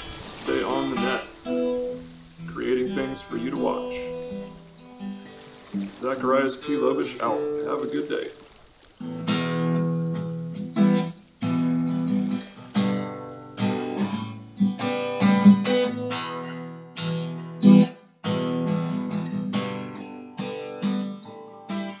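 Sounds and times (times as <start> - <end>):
acoustic guitar strummed chords: 0.0 - 8.3, 9.0 - 22.0.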